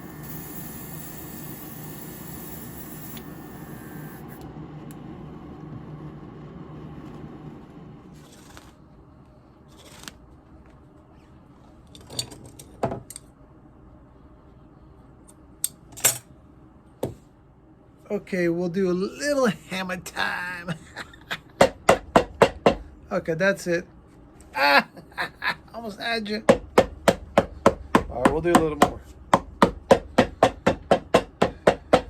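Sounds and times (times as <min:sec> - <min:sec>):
mechanical hum with hiss: 0:00.0 - 0:32.0.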